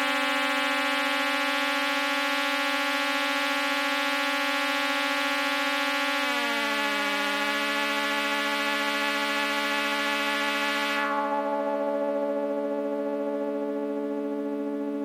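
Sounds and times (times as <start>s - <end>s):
synthesizer electronic drone: 0.0s - 15.0s.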